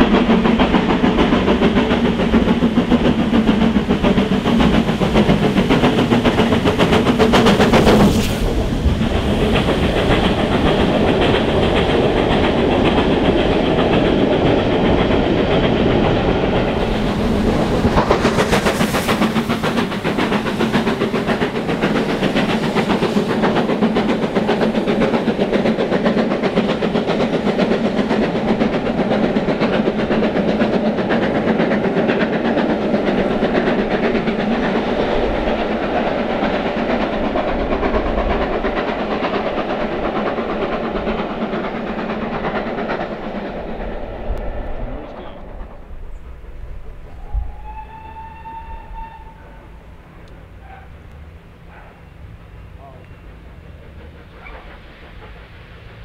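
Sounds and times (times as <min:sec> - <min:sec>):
steam locomotive exhaust beats: 0:00.0 - 0:56.0
train coaches clacking over rail joints: 0:00.0 - 0:56.0.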